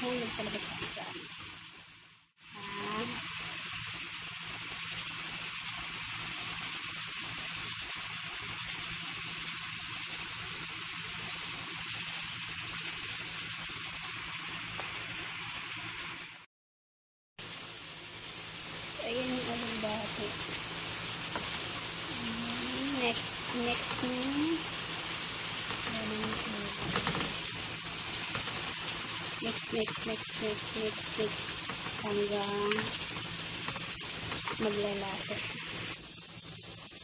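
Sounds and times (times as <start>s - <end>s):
food sizzling in a frying pan: 0.0s - 16.5s, 17.4s - 37.0s.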